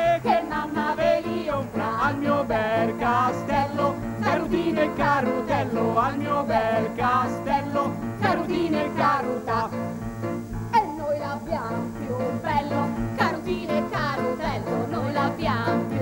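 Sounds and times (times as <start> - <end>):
women singing: 0.0 - 10.0, 10.7 - 16.0
piano: 0.0 - 16.0.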